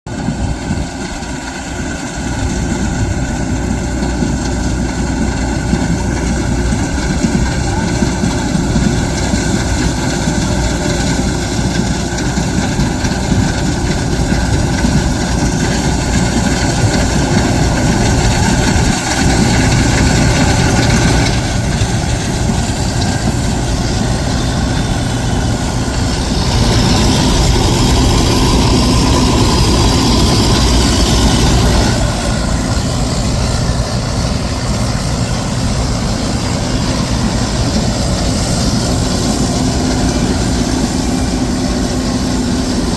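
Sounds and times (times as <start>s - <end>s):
diesel machinery engine running: 0.1s - 42.9s.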